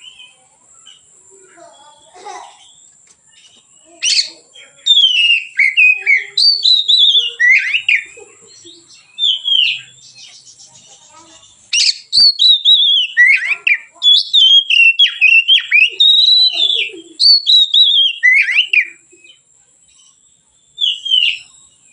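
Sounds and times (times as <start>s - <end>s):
bird singing whistled phrases: 0.0s - 1.1s, 1.7s - 19.4s, 20.0s - 21.9s.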